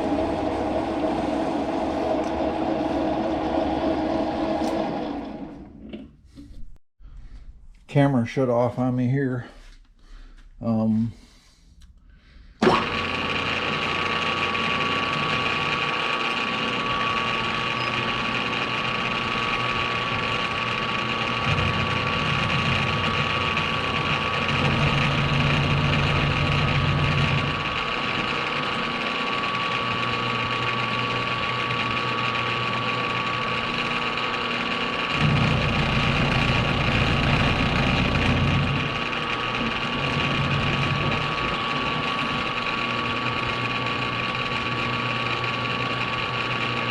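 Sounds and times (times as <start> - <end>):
machine tool whine: 0.0 - 6.0, 12.6 - 46.9.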